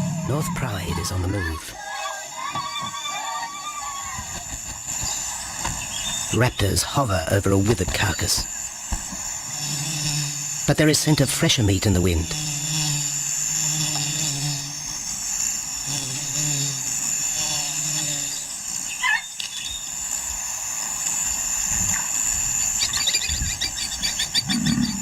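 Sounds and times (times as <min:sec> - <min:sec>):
steady high insect drone: 0:00.0 - 0:25.0.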